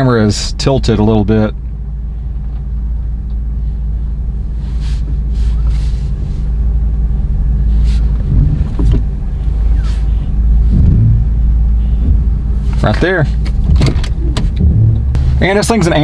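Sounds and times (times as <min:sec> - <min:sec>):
truck engine low rumble: 0:00.0 - 0:16.0.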